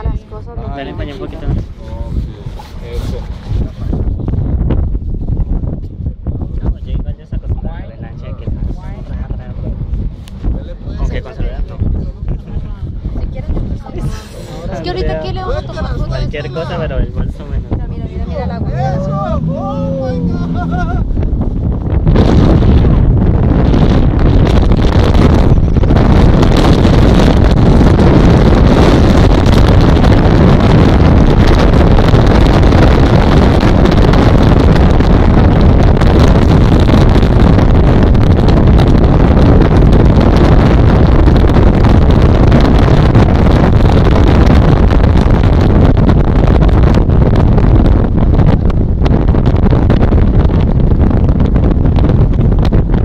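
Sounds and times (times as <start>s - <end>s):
speedboat running at speed: 0.0s - 53.0s
wind buffeting microphone: 0.0s - 53.0s.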